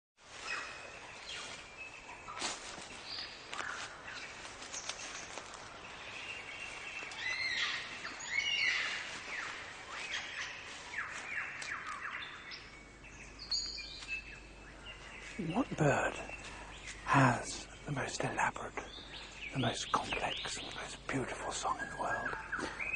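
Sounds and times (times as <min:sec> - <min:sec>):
birds singing and calling: 0:00.3 - 0:22.9
steady background hiss: 0:00.3 - 0:22.9.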